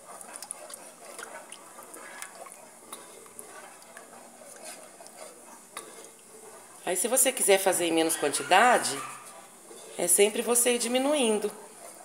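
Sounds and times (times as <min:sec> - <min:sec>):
spoon stirring thick sauce: 0:00.0 - 0:12.0.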